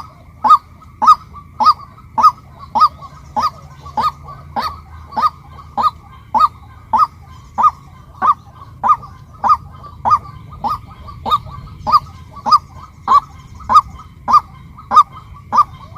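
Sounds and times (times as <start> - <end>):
waterhen honking calls: 0.0 - 15.9.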